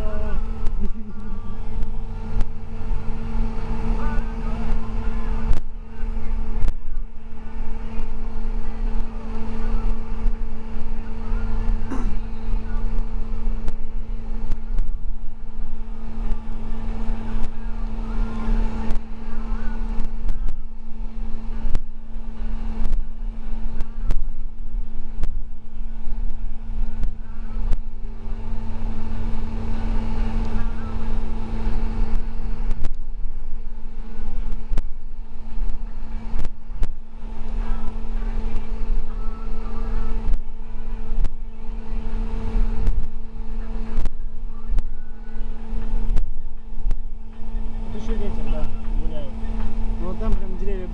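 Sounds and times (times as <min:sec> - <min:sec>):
bus engine running: 0:00.0 - 0:50.9
road rumble: 0:00.0 - 0:50.9.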